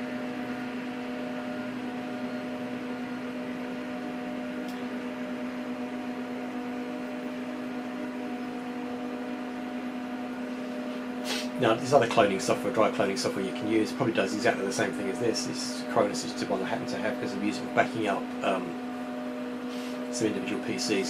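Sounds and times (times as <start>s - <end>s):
server fan hum: 0.0s - 21.0s.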